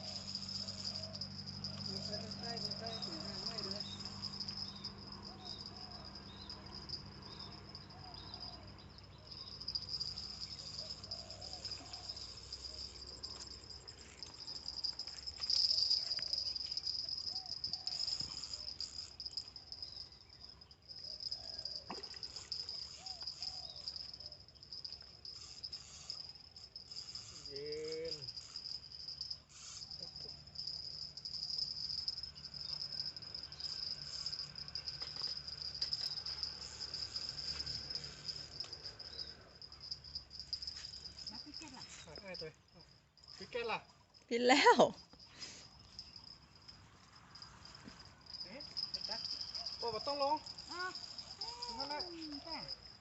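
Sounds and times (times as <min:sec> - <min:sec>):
crickets and insects chirping: 0:00.0 - 0:53.0.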